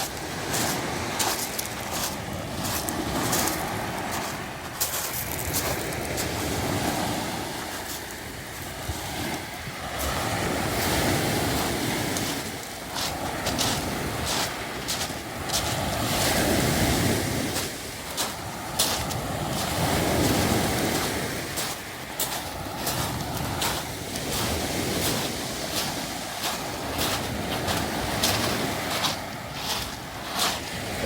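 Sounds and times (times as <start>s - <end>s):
waves washing over pebbles: 0.0s - 31.0s.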